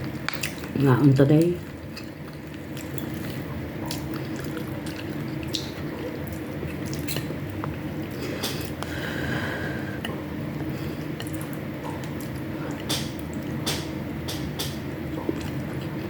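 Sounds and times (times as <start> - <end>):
wet chewing: 0.0 - 9.2, 9.9 - 16.0
steady low hum: 0.0 - 16.0.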